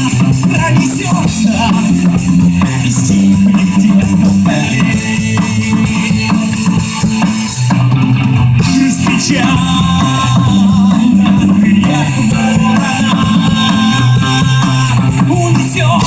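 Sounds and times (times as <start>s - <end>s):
bass: 0.0s - 16.0s
drum kit: 0.0s - 16.0s
guitars: 0.0s - 16.0s.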